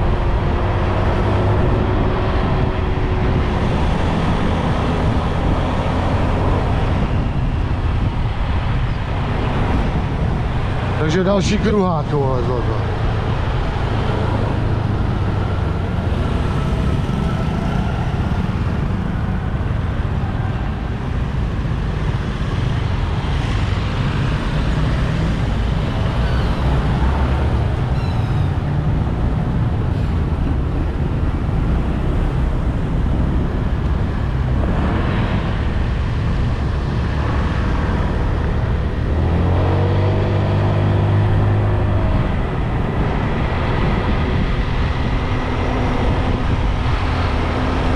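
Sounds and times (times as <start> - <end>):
wind rushing: 0.0 - 19.9, 22.7 - 47.9.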